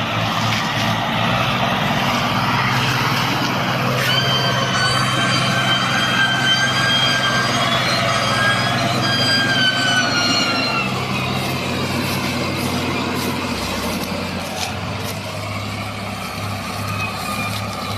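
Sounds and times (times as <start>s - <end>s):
tractor engine running: 0.0s - 17.9s
high-pitched wavering whine: 2.5s - 17.9s.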